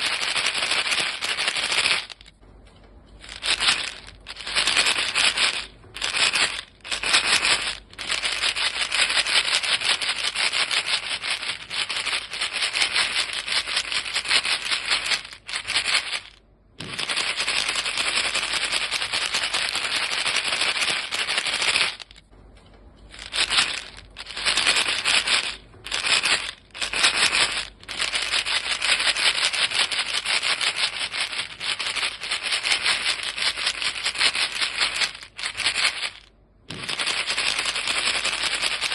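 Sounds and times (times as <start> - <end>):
box of gum pellets rattling: 0.0 - 2.4, 3.1 - 22.3, 23.1 - 38.9.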